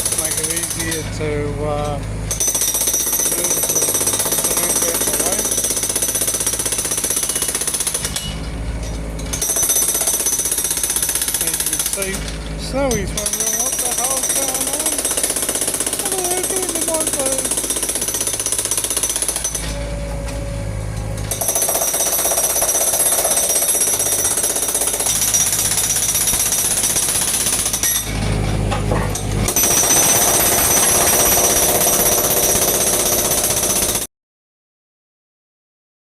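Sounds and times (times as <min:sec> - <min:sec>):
jackhammer breaking concrete: 0:00.0 - 0:20.2, 0:21.1 - 0:34.1.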